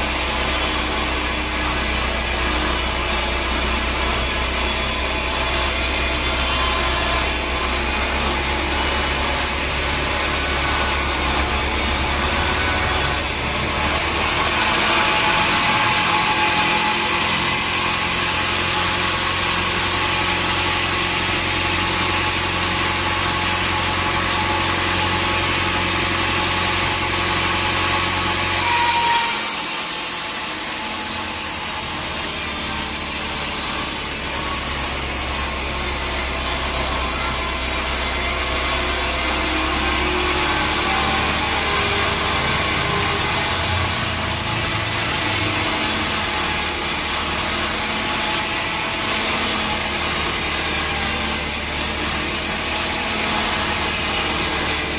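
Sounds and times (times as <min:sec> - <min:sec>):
saw rasping through log: 0:00.0 - 0:54.9.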